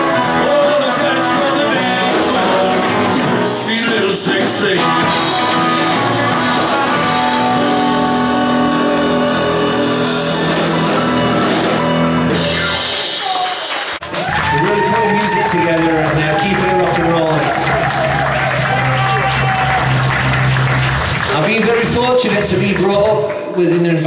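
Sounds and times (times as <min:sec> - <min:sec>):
live rock band playing: 0:00.0 - 0:23.1.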